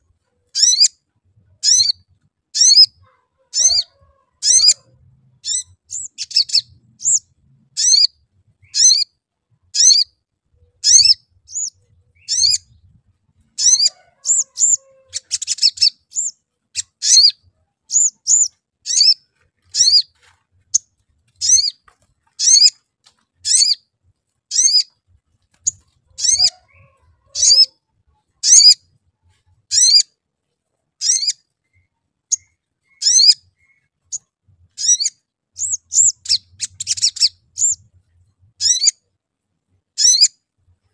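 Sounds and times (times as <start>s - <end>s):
bird chirping: 0.0s - 23.9s, 24.5s - 30.1s, 31.0s - 39.1s, 39.9s - 40.9s.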